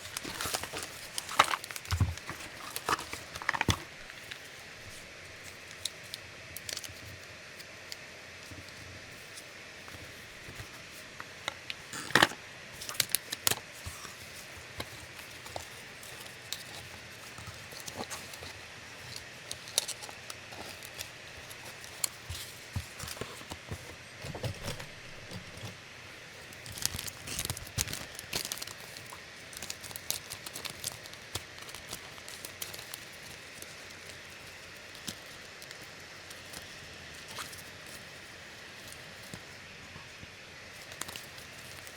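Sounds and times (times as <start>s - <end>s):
plastic and cardboard rustling: 0.0s - 41.9s.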